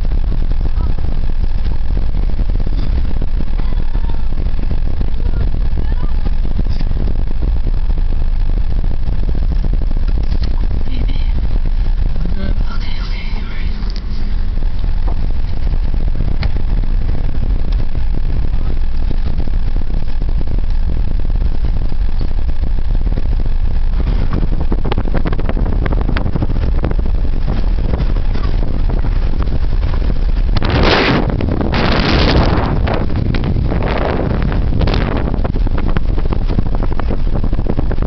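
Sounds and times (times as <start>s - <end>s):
vehicle rumbling on dirt road: 0.0s - 38.0s
wind gusts on microphone: 0.0s - 38.0s.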